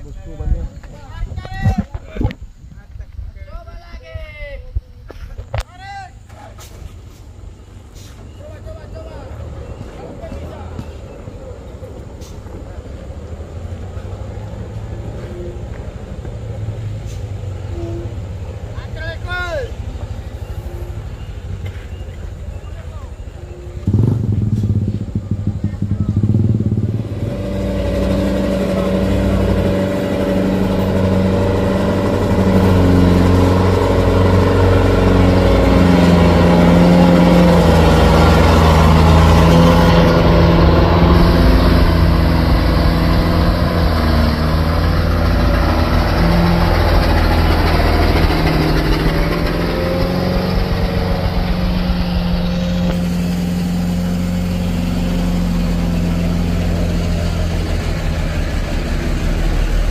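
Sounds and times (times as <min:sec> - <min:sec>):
heavy diesel engine running: 0:07.2 - 0:59.9.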